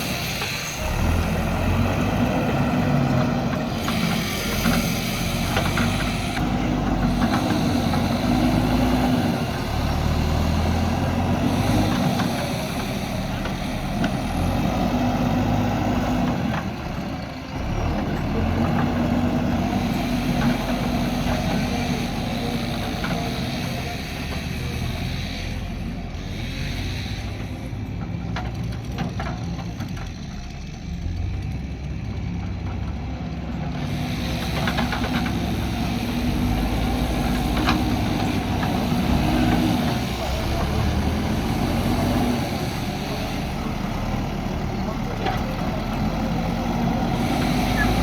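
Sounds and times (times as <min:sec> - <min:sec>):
diesel engine revving under load: 0:00.0 - 0:48.0.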